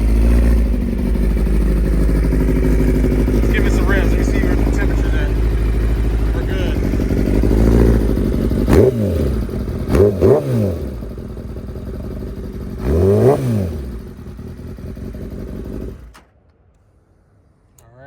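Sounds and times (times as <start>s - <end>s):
motorcycle engine idling and revving: 0.0s - 16.3s.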